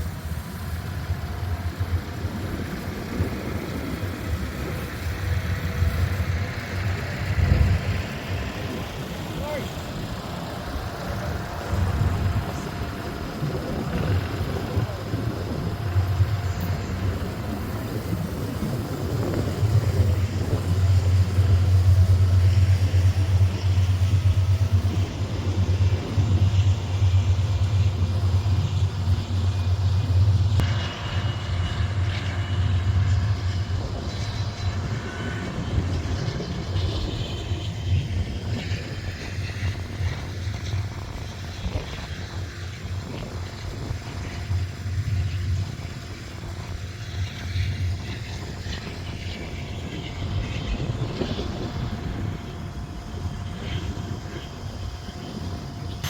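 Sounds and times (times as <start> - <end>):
small engine humming: 0.0 - 56.0.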